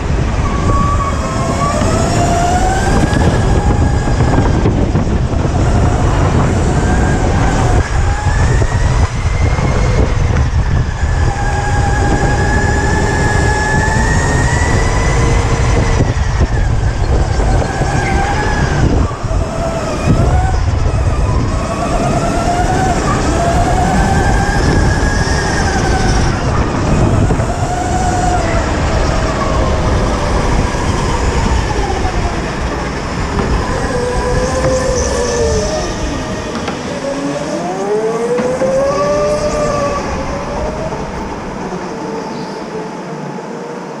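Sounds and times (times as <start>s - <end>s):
electric go-kart motors whining: 0.0s - 44.0s
kart rumbling on track: 0.0s - 44.0s.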